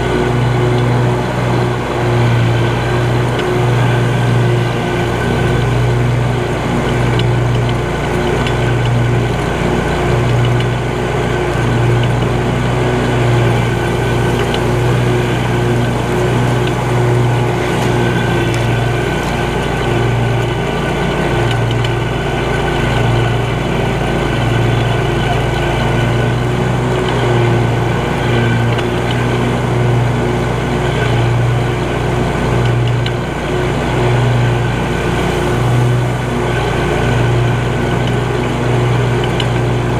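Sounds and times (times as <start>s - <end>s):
riding mower engine hum: 0.0s - 39.9s.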